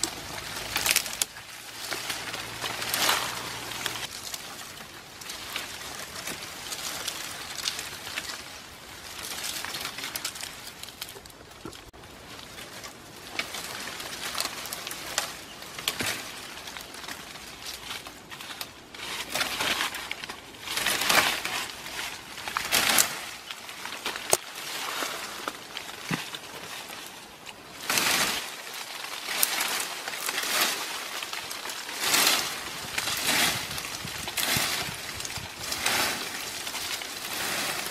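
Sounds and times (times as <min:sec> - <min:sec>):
dry leaves and twigs rustling: 0:00.0 - 0:37.9.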